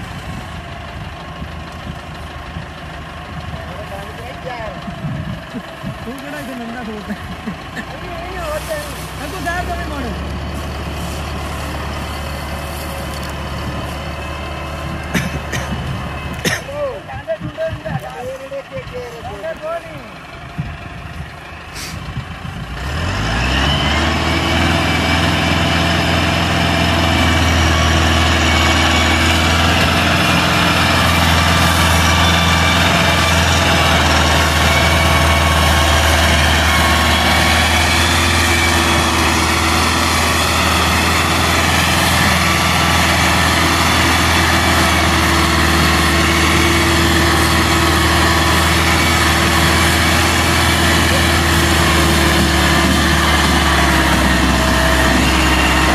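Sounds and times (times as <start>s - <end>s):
tractor diesel engine revving: 0.0s - 55.9s.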